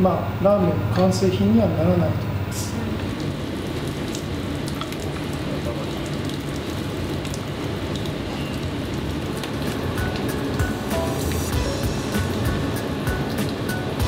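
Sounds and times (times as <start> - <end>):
water boiling hard in a pot: 0.0 - 14.0.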